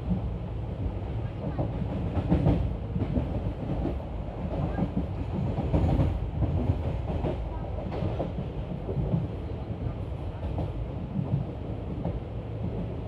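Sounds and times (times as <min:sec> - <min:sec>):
clickety-clack over rail joints: 0:00.0 - 0:13.0
train wheels rumbling on rails: 0:00.0 - 0:13.0.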